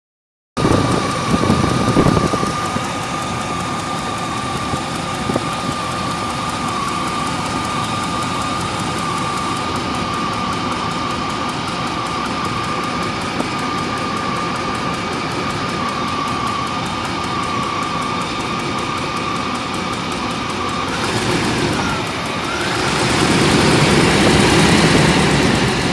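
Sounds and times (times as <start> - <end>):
car engine running: 0.6 - 25.9
loud cooling fan: 0.6 - 25.9
steady high whine: 0.6 - 25.9
valve ticking: 0.6 - 25.9.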